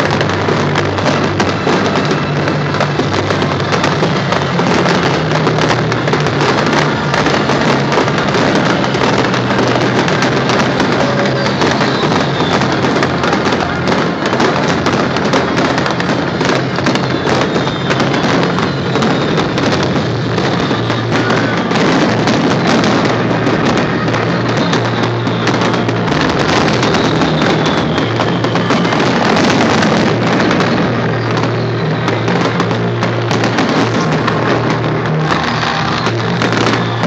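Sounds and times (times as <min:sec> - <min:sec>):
fireworks bursting and crackling: 0:00.0 - 0:37.0
music playing: 0:00.0 - 0:37.0.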